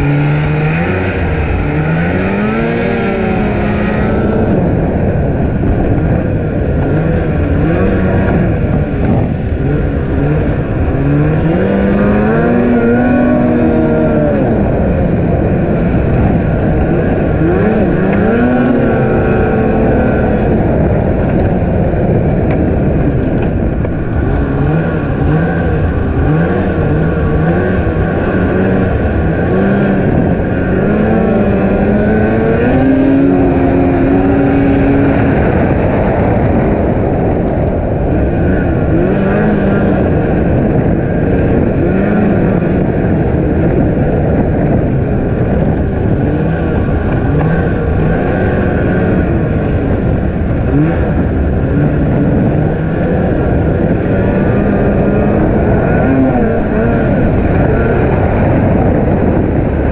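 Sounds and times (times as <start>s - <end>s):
snowmobile engine revving: 0.0s - 59.9s
steady rushing noise: 0.0s - 59.9s.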